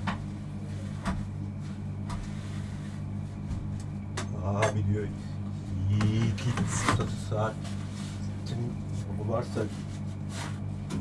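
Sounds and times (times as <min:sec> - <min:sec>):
kitchen equipment motor hum: 0:00.0 - 0:11.0.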